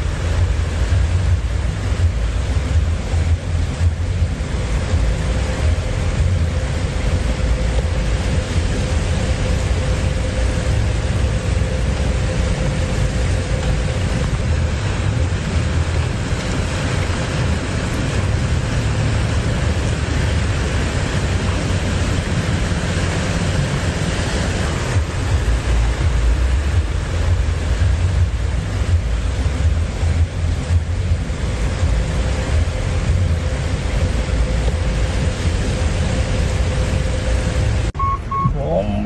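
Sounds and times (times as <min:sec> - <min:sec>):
wind buffeting microphone: 0:00.0 - 0:38.6
floodwater rushing: 0:00.0 - 0:39.0.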